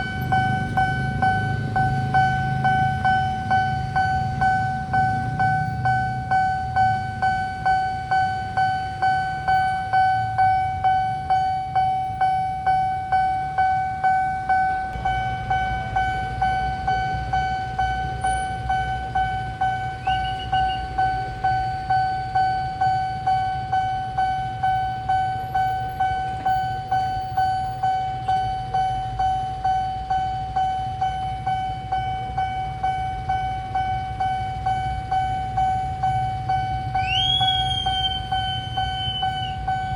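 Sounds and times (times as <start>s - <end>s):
level-crossing alarm bell ringing: 0.0s - 39.9s.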